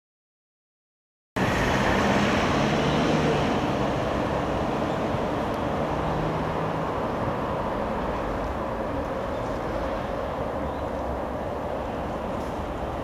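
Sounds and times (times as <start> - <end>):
rumble of passing vehicles: 1.4 - 13.0.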